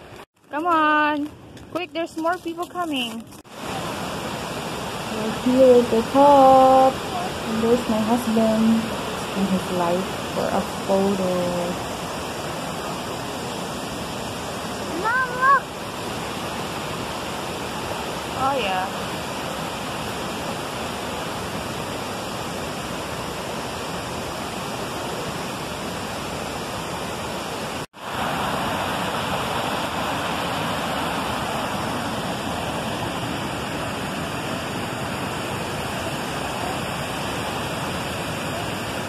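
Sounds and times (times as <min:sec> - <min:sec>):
waterfall and river rushing: 0:03.5 - 0:39.0.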